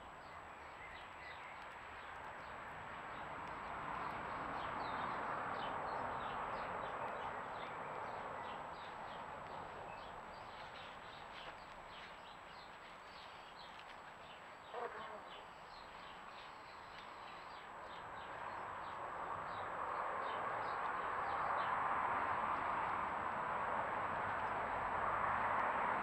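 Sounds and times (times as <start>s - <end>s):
small birds chirping: 0.1s - 21.8s.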